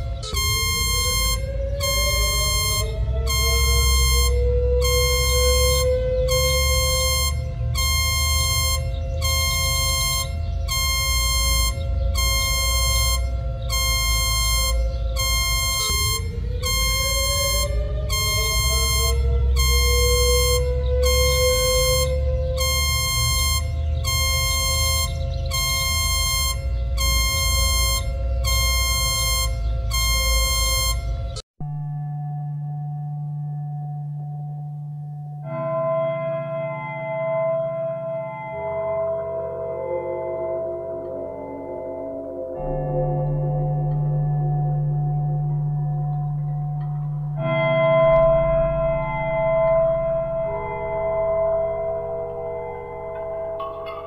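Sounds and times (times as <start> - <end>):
buzzy pulsing alarm tone: 0.0 - 32.0, 35.4 - 54.0
deep rumble: 0.0 - 54.0
low drone: 0.0 - 54.0.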